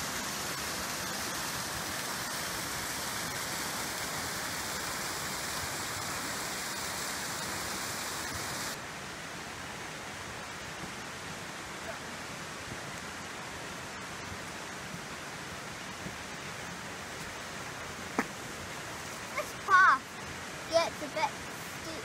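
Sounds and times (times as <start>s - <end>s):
stream rushing over waterfall: 0.0s - 22.0s.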